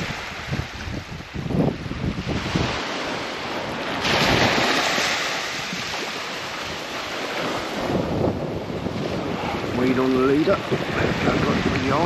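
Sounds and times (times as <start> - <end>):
small waves breaking on beach: 0.0 - 12.0
wind buffeting microphone: 0.0 - 12.0.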